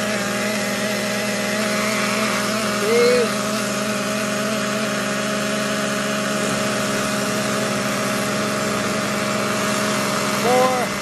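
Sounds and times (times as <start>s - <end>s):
small nitro engines idling: 0.0s - 11.0s.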